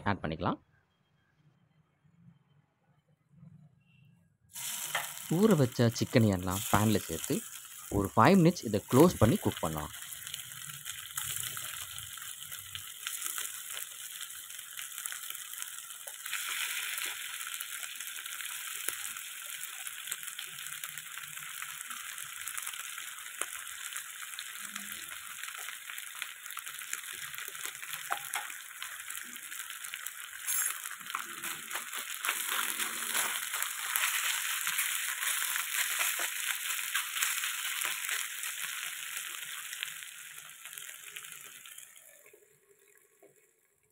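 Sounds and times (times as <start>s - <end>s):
chicken sizzling in hot oil: 4.5s - 43.6s.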